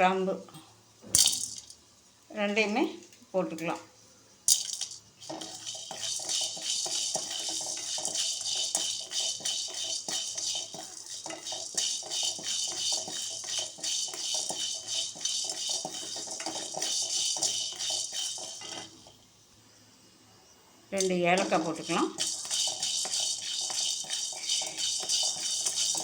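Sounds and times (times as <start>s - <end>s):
spices rattling in a dry pan: 0.9s - 26.0s.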